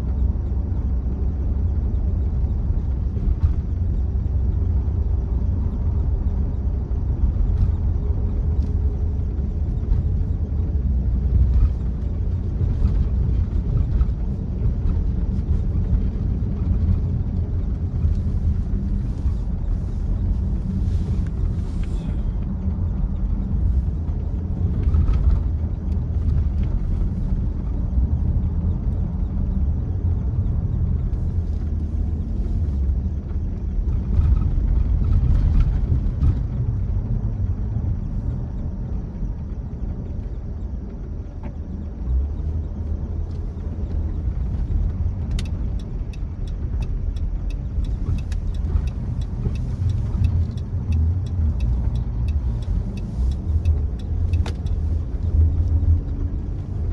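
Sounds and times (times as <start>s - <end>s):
car driving on snowy road: 0.0s - 56.9s.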